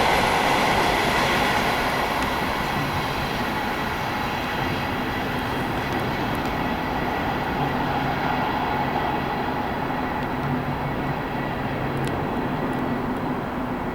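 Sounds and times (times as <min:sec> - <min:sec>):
train rolling past: 0:00.0 - 0:13.9.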